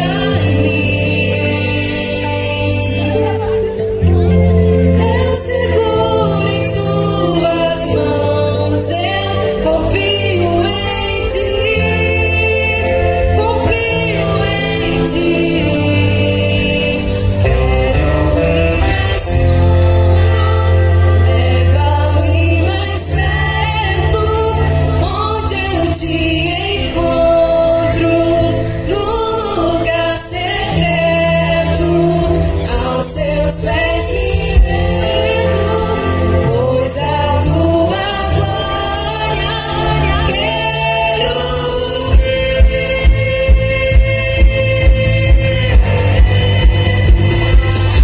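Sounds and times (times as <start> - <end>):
gospel worship singing: 0.0 - 48.0
sustained bass notes: 0.0 - 48.0.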